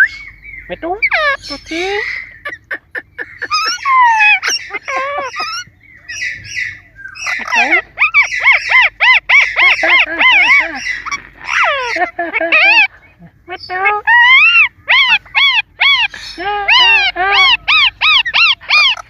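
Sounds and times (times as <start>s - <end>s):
parrot squawking: 0.0s - 19.0s.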